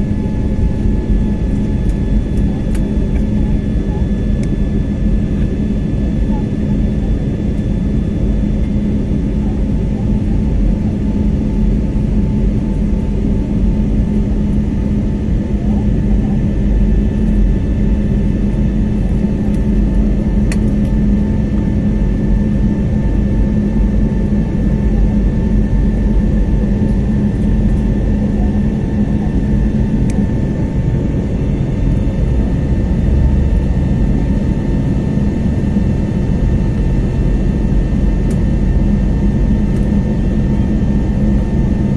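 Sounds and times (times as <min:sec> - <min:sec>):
airliner engine drone: 0:00.0 - 0:41.9
steady low hum: 0:00.0 - 0:41.9.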